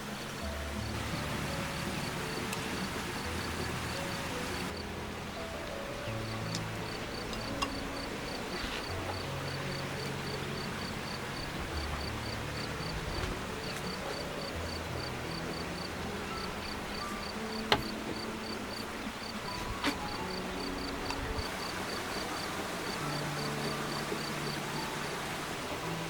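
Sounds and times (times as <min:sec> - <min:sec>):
insect chirping: 0:00.0 - 0:05.1, 0:05.7 - 0:26.0
soft background music: 0:00.0 - 0:26.0.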